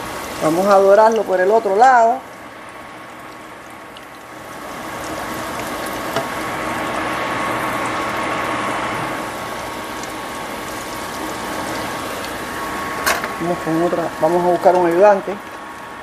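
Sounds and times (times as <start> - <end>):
fritters sizzling in oil: 0.0 - 16.0.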